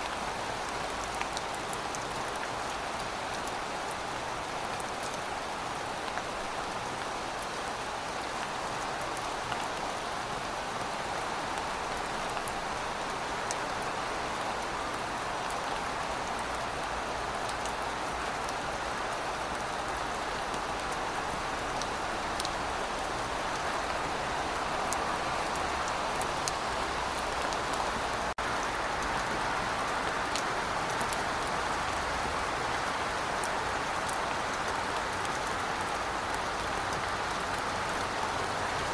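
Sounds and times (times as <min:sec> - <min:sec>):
raindrops ticking on a surface: 0:00.0 - 0:38.9
steady rain hissing: 0:00.0 - 0:38.9.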